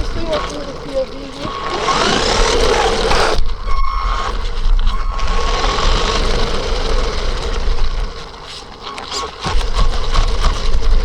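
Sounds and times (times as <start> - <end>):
electric motor whining: 0.0 - 11.0
tyre and wind noise: 0.0 - 11.0.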